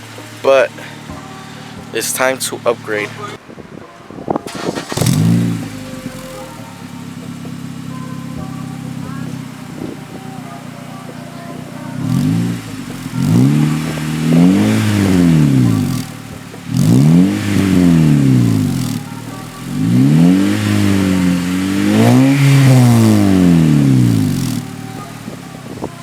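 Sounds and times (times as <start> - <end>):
car engine revving: 0.0 - 3.4, 4.5 - 26.0.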